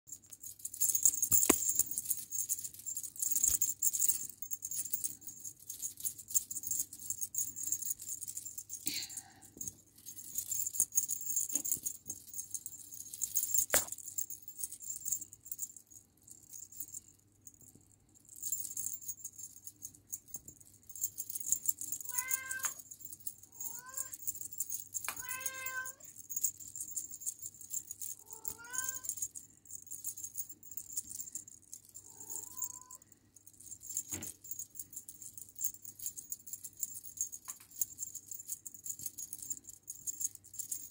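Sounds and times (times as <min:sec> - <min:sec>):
beaded wand toy rattling: 0:00.1 - 0:40.9.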